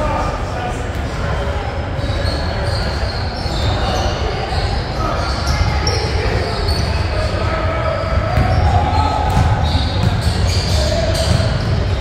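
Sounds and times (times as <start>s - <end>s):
distant voices: 0.0s - 12.0s
low rumble in a large gym: 0.0s - 12.0s.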